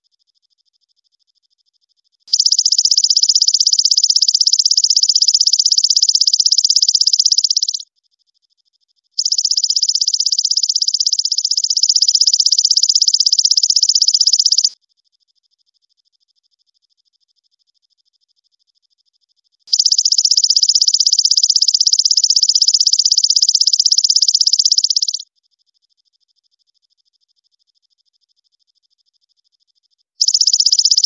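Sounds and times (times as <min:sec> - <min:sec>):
faint steady ticking: 0:00.0 - 0:31.0.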